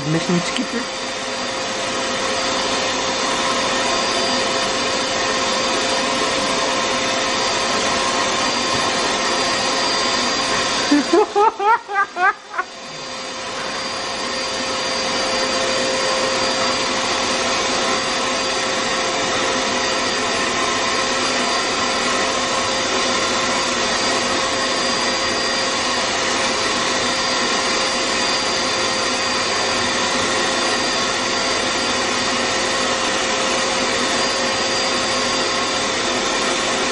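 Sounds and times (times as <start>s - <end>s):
vacuum cleaner whining: 0.0s - 36.9s.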